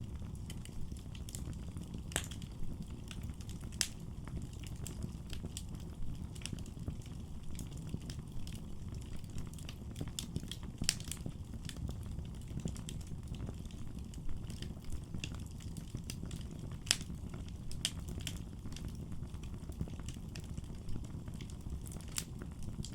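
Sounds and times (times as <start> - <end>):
fire crackling and popping: 0.0 - 22.9
fire flames rumbling: 0.0 - 22.9.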